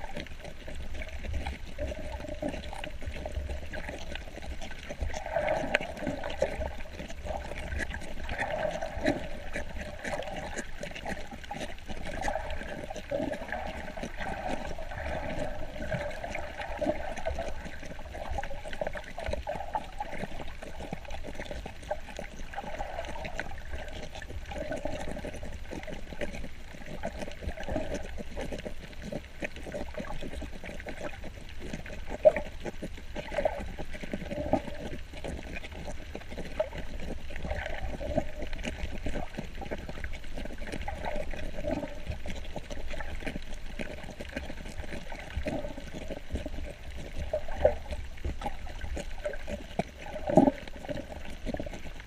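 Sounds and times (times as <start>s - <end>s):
muffled water gurgling and sloshing: 0.0s - 52.0s
small crackling clicks: 0.0s - 52.0s.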